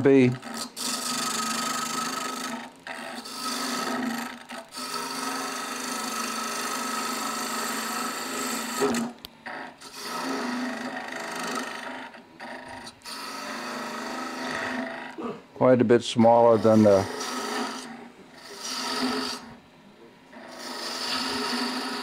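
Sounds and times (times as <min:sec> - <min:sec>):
lathe tool scraping wood: 0:00.0 - 0:19.6, 0:20.3 - 0:22.0
lathe motor hum: 0:00.0 - 0:22.0.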